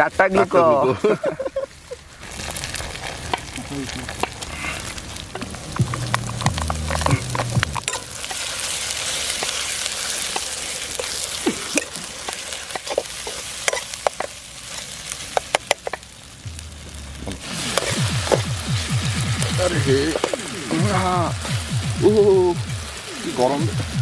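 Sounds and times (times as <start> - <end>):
food sizzling in oil: 0.0 - 24.0.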